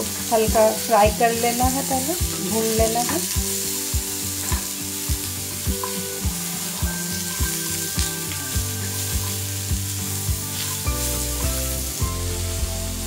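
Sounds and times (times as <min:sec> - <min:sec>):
background music with steady beat: 0:00.0 - 0:13.0
food sizzling in hot oil: 0:00.0 - 0:13.0.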